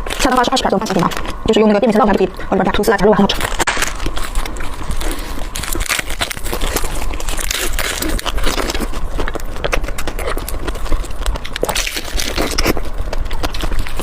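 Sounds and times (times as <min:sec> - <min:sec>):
chewing and crunching food: 0:00.0 - 0:14.0.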